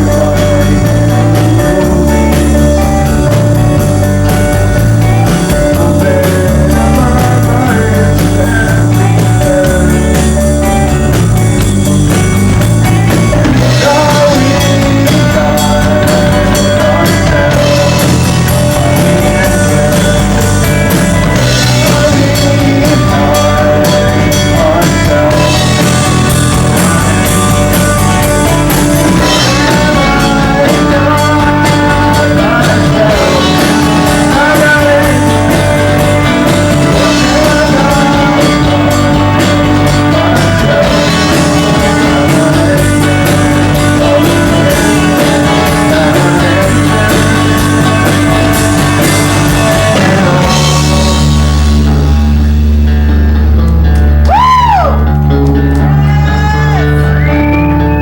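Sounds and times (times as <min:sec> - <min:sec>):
person singing: 0:00.0 - 0:52.8, 0:54.2 - 0:58.0
bass guitar: 0:00.0 - 0:58.0
drum kit: 0:00.0 - 0:58.0
electric guitars: 0:00.0 - 0:58.0.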